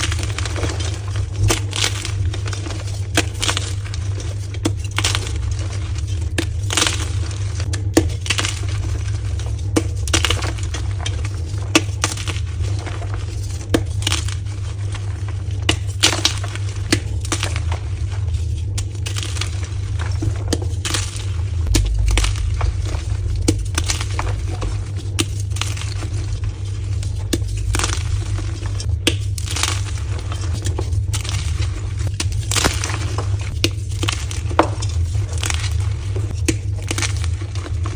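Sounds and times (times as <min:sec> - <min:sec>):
chalk crunching and crumbling: 0:00.0 - 0:37.9
steady low hum: 0:00.0 - 0:37.9.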